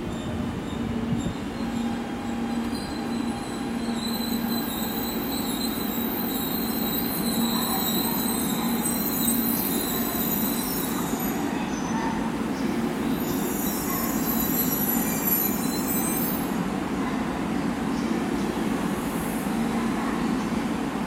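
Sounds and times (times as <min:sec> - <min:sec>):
high-pitched train squeals: 0:00.0 - 0:20.8.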